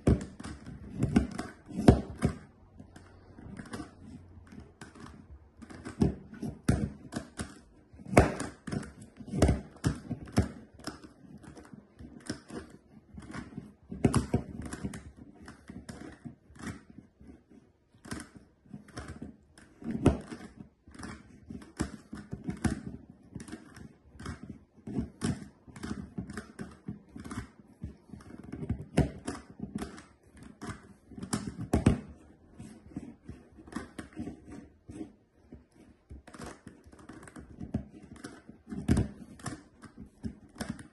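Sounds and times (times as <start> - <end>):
puzzle cube plastic clicks: 0.0 - 40.9.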